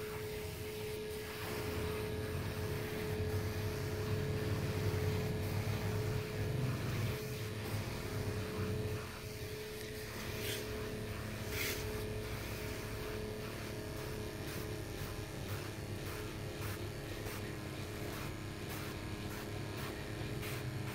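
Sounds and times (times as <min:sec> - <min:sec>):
spray wand hissing: 0:00.0 - 0:20.9
sprayer pump motor humming: 0:00.0 - 0:20.9.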